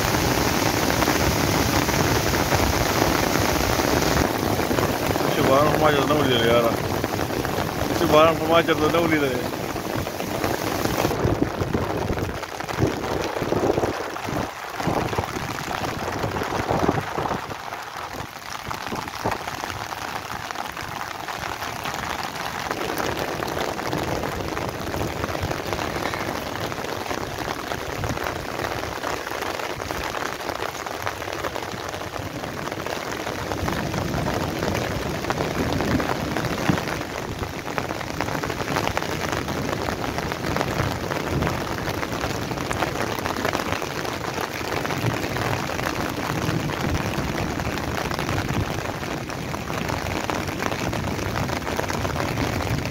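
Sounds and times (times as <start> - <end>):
heavy rain on concrete roof: 0.0 - 52.9.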